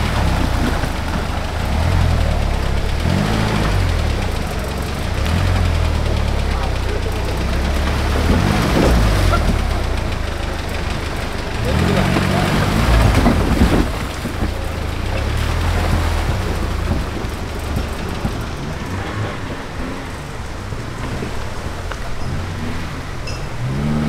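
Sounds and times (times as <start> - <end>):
off-road vehicle engine at low revs: 0.0 - 24.0
rushing water noise: 0.0 - 24.0.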